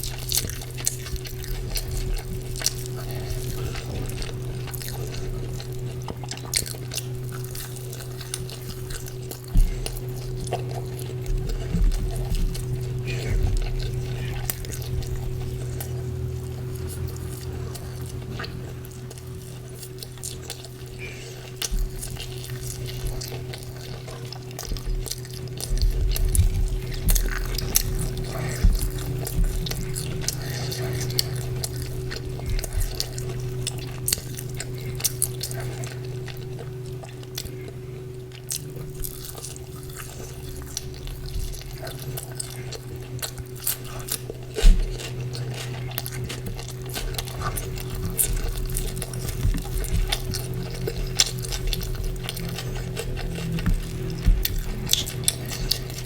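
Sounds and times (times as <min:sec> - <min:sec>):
chewing and mouth sounds: 0:00.0 - 0:56.0
steady low hum: 0:00.0 - 0:56.0.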